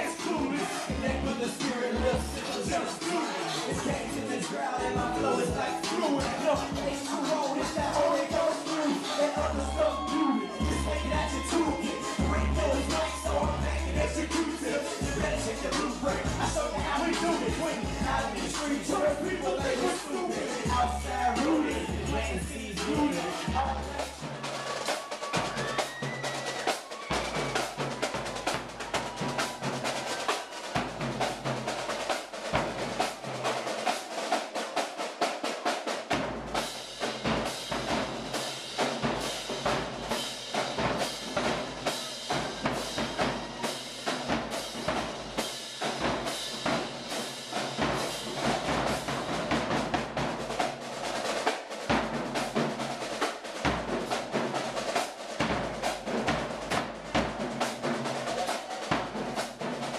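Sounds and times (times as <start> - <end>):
drumline playing fast rhythm: 0.0 - 59.9.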